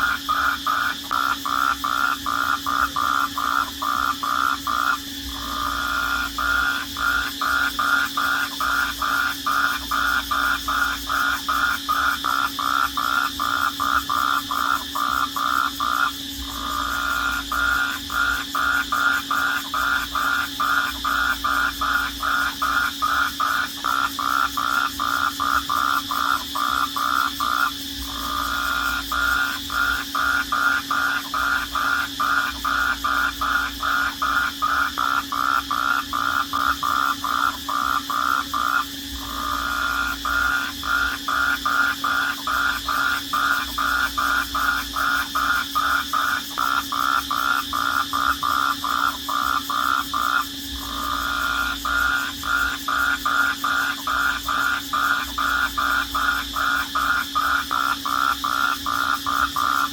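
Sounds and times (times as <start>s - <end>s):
crickets pulsed calling: 0.0s - 59.9s.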